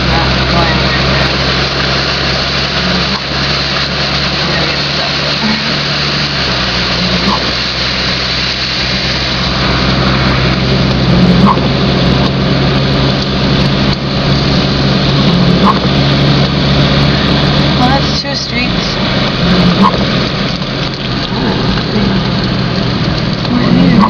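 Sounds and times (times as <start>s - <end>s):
car engine hum: 0.0s - 24.0s
tyres rushing through water: 0.0s - 24.0s.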